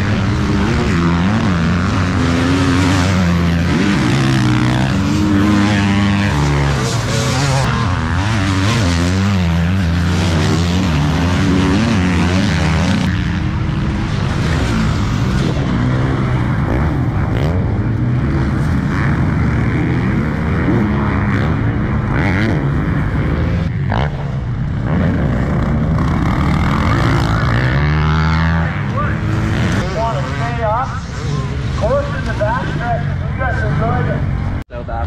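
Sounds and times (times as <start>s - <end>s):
dirt bike engines racing: 0.0s - 35.0s.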